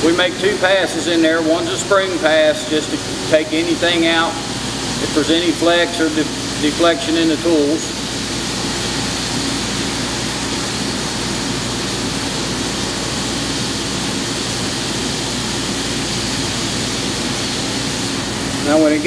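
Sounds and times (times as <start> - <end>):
coolant spray hissing: 0.0 - 19.0
faint low machine hum: 0.0 - 19.0.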